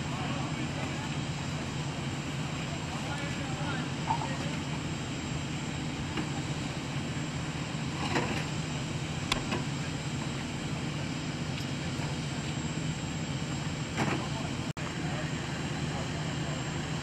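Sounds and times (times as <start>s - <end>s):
steady engine drone: 0.0s - 17.0s.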